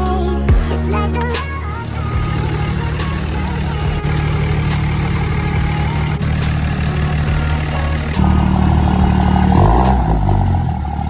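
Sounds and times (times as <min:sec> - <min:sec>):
truck engine running: 0:01.4 - 0:11.0.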